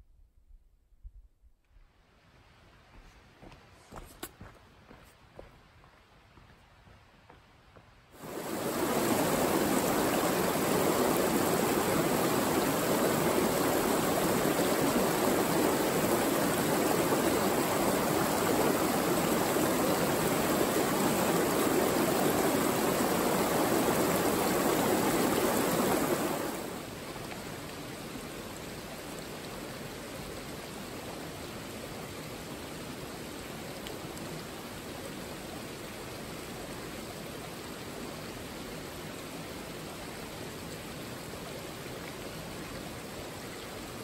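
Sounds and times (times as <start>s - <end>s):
stream splashing over rocks: 8.2s - 44.0s.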